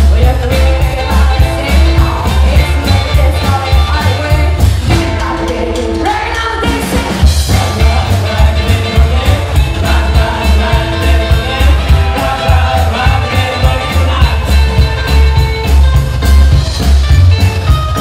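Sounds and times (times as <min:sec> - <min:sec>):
woman singing: 0:00.0 - 0:14.6
drums: 0:00.0 - 0:18.0
electric guitar: 0:00.0 - 0:18.0
upright double bass: 0:00.0 - 0:18.0.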